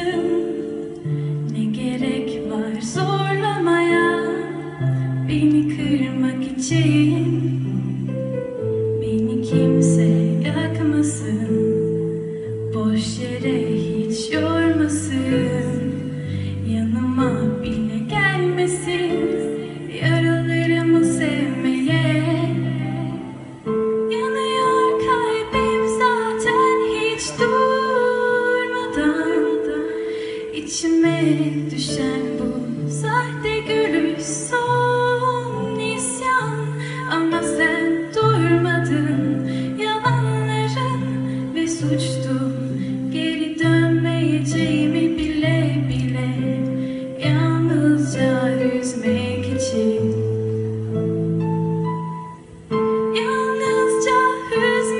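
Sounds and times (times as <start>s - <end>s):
woman singing lead: 0.0s - 54.9s.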